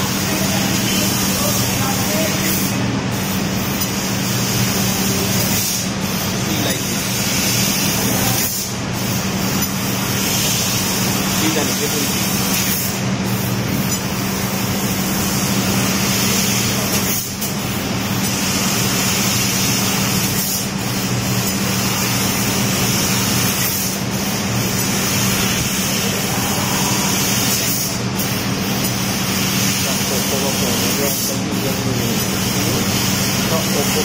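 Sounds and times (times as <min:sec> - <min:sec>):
laser cutting hiss: 0:00.0 - 0:34.0
low machine hum: 0:00.0 - 0:34.0.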